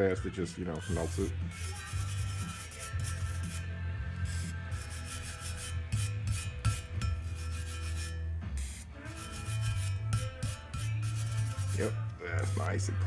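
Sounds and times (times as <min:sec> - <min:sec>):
brush scrubbing metal: 0:00.9 - 0:12.9.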